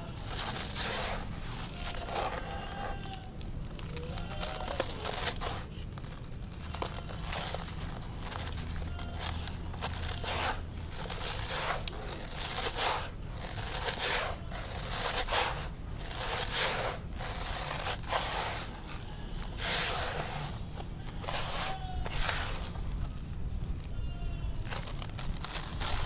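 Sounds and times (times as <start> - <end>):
concrete crumbling and crunching: 0.0 - 26.0.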